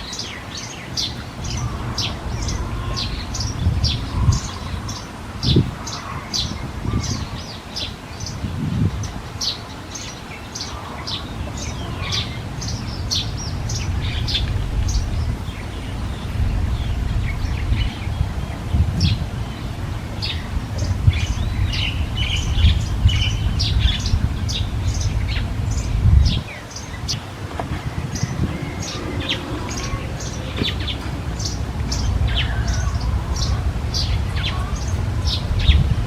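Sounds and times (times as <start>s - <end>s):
small birds chirping: 0.0s - 36.0s
steady low rumble: 1.1s - 9.4s, 10.7s - 36.0s.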